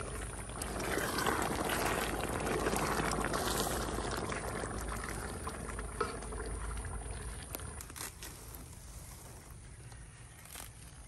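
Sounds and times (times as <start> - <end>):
sauce sloshing and bubbling: 0.0 - 10.2.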